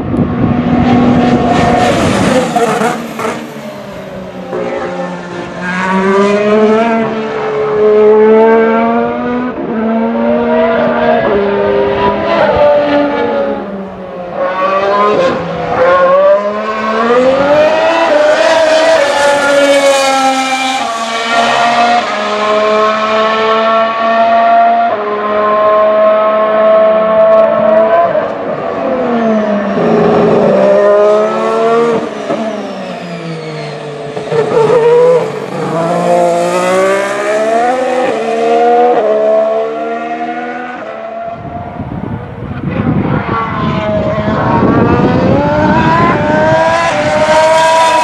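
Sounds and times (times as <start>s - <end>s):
race car engine accelerating: 0.0s - 48.0s.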